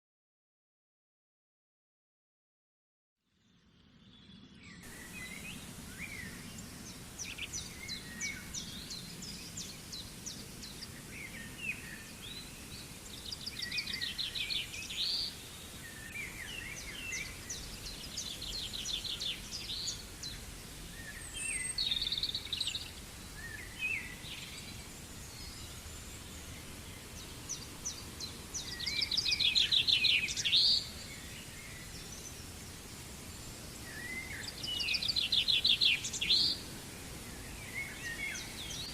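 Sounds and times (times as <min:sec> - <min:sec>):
birds chirping and trilling: 0:03.8 - 0:38.9.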